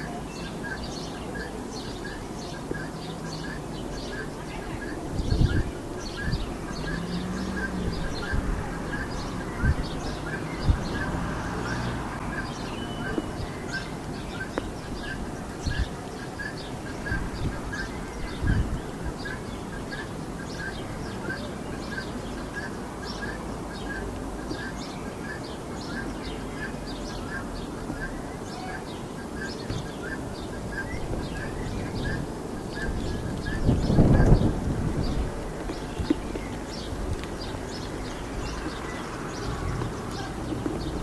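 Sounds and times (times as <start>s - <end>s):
birds chirping and calling: 0.0s - 41.0s
road traffic rumble: 0.0s - 41.0s.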